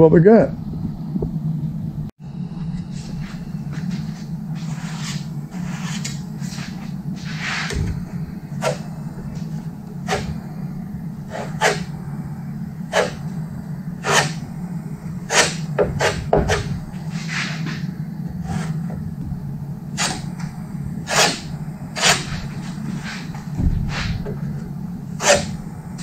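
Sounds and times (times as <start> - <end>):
steady low hum: 0.0 - 26.0
spreader scraping filler: 2.7 - 26.0.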